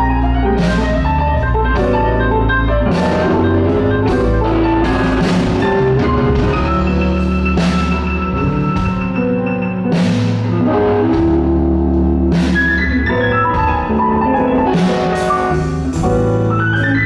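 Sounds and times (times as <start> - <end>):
blues band playing: 0.0 - 17.0.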